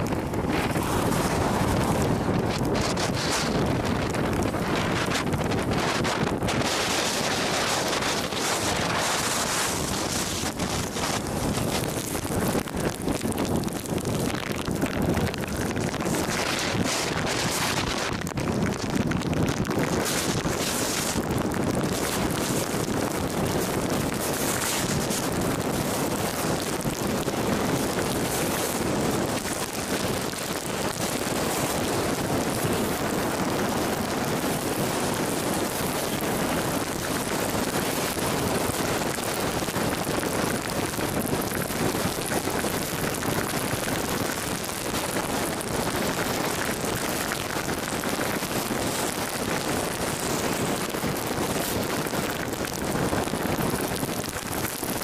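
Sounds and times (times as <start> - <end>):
rain and wet road hiss: 0.0 - 55.0.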